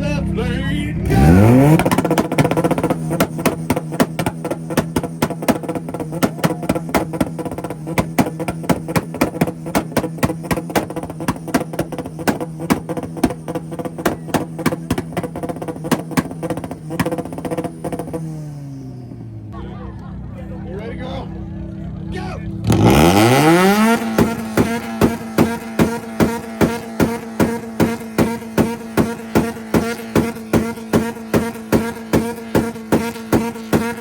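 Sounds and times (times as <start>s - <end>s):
car engine revving on limiter: 1.0s - 19.5s, 22.5s - 34.0s
exhaust pops: 1.0s - 19.6s, 22.6s - 34.0s.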